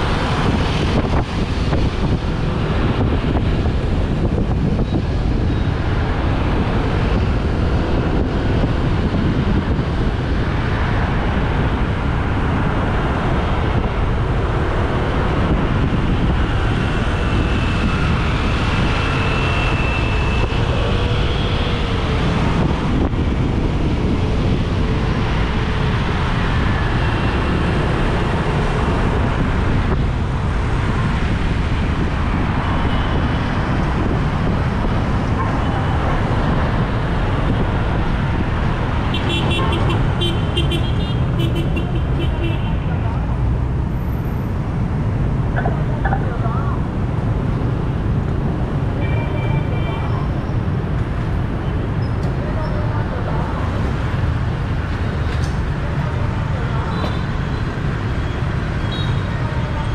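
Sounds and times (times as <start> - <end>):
cars and motorbikes: 0.0 - 59.9
wind rumbling on microphone: 0.0 - 59.9.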